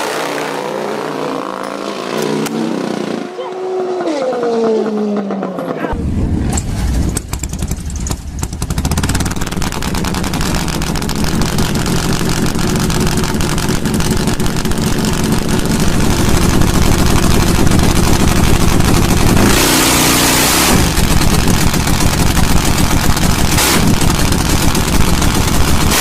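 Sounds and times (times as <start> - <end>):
motorcycle engine running loud: 0.0 - 26.0.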